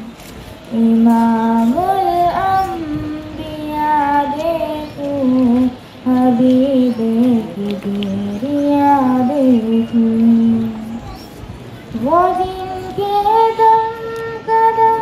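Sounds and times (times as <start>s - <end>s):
girl singing into a microphone: 0.7s - 11.0s, 11.9s - 15.0s.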